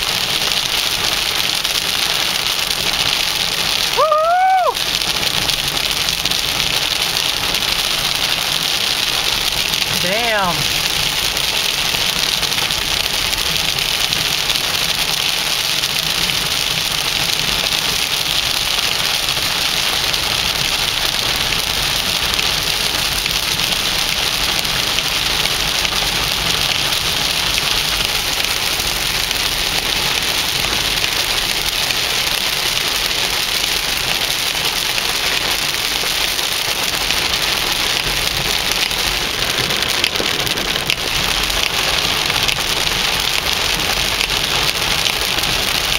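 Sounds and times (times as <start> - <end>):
heavy rain drumming on car roof: 0.0 - 45.9.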